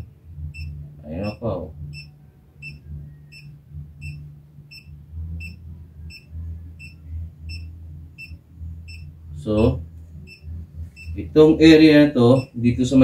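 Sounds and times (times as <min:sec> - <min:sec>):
short electronic beeps: 0:00.0 - 0:11.3, 0:12.3 - 0:12.6
low steady hum: 0:00.0 - 0:13.0.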